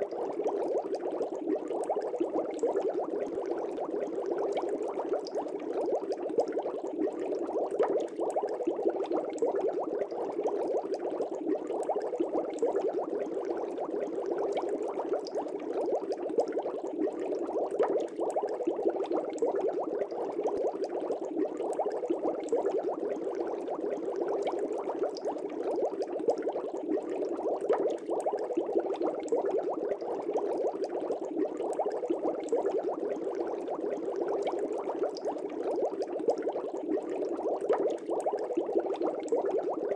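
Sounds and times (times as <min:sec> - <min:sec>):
bubbles in fish tank water: 0:00.0 - 0:39.9.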